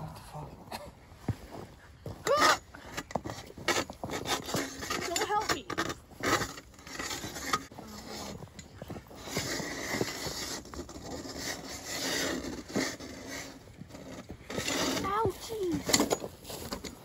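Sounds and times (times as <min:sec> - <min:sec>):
ice auger grinding through ice: 0:02.3 - 0:17.0.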